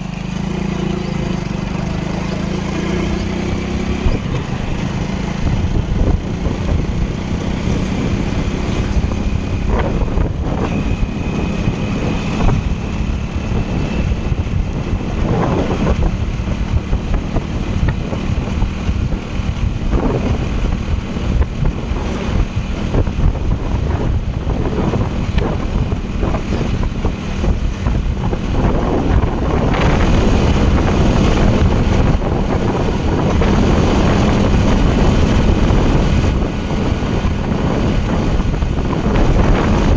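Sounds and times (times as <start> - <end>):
wind buffeting microphone: 0.7 - 39.9.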